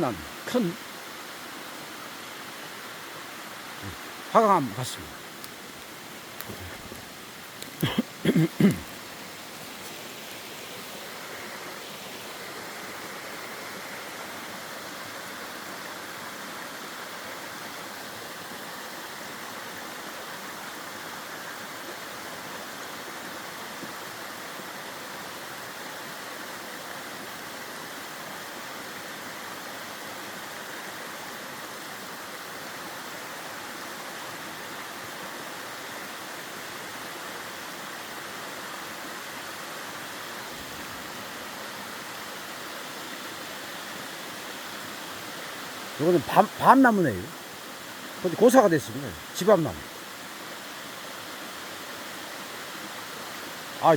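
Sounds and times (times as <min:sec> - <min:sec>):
stream flowing: 0:00.0 - 0:53.9.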